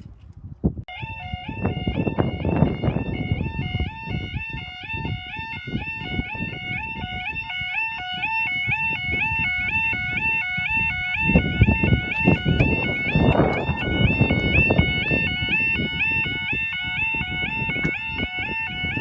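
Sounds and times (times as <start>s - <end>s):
level crossing warning alarms: 0.9s - 19.0s.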